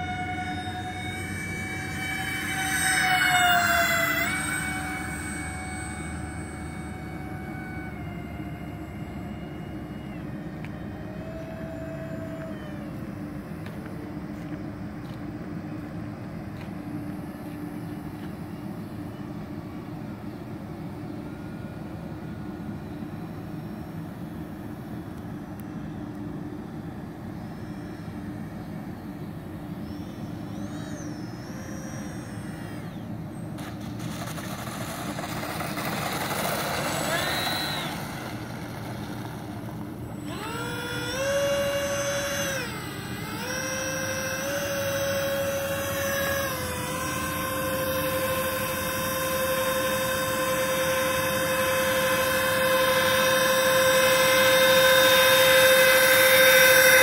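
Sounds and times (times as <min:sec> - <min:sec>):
model plane fan whine: 0:00.0 - 0:57.0.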